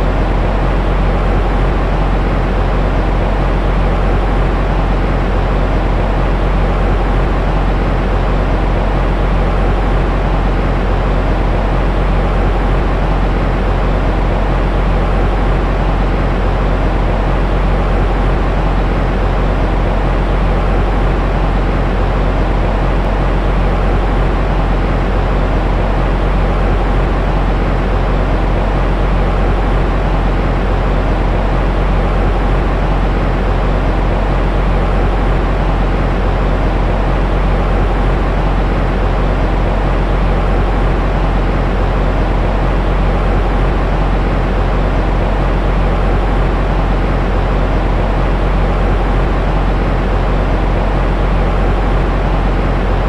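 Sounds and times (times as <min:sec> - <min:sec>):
deep white noise hiss: 0:00.0 - 0:53.0.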